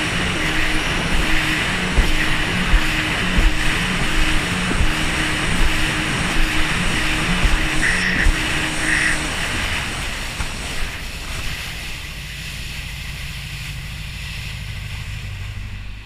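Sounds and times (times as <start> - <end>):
wind on microphone: 0.0 - 13.9
jet ski engine running: 0.0 - 16.0
water rushing past hull: 0.0 - 16.0.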